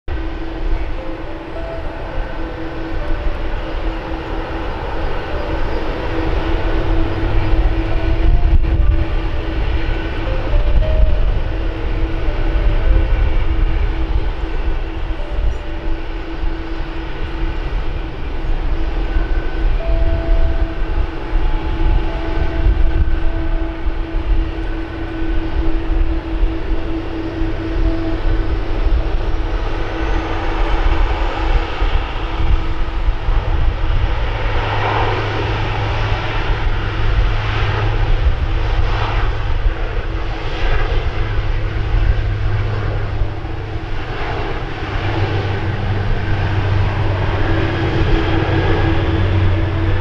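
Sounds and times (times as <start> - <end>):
jet aircraft idling: 0.1 - 50.0.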